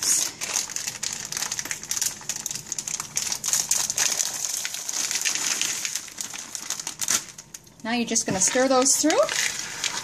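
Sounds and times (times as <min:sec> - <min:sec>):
chips falling into dough: 0:00.0 - 0:07.8, 0:08.4 - 0:10.0
crinkling plastic bag: 0:00.0 - 0:10.0.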